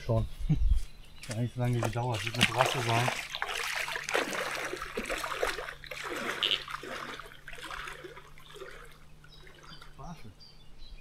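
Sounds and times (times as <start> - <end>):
water splashing and trickling: 1.2 - 10.3.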